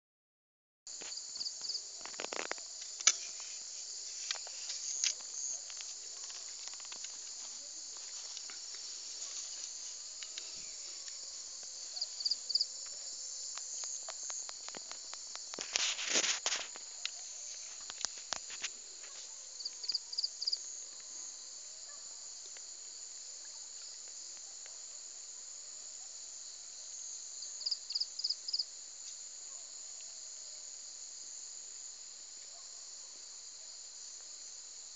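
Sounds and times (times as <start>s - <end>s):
high-pitched insect chorus: 0.9s - 34.9s.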